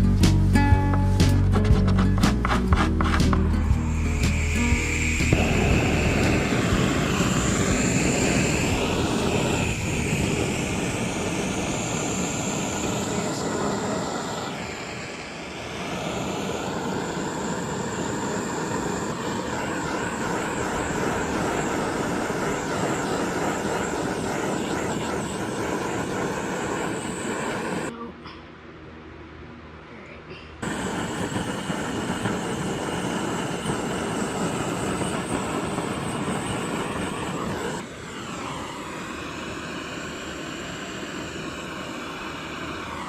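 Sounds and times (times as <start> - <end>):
electric sander whirring: 2.2 - 14.8, 15.5 - 27.9, 30.6 - 43.0.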